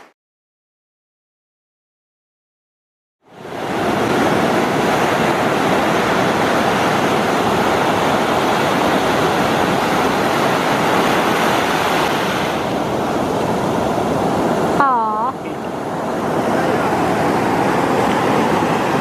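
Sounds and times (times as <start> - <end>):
surf washing up a beach: 3.3 - 19.0.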